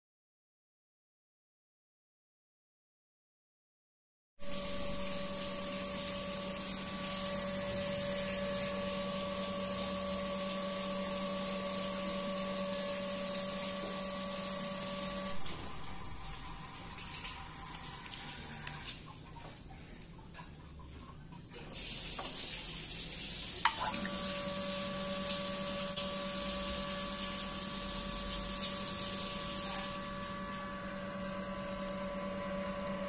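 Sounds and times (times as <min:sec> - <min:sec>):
water pump motor hum: 0:04.4 - 0:33.0.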